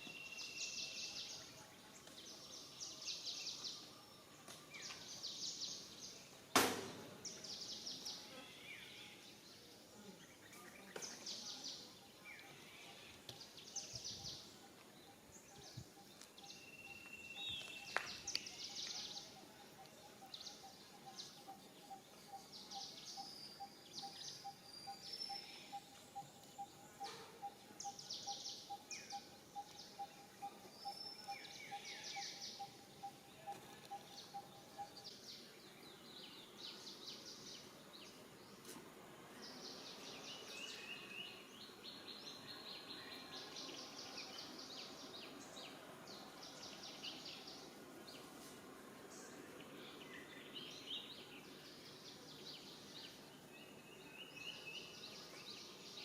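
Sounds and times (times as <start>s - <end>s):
birds chirping and trilling: 0.0s - 38.7s, 49.0s - 56.0s.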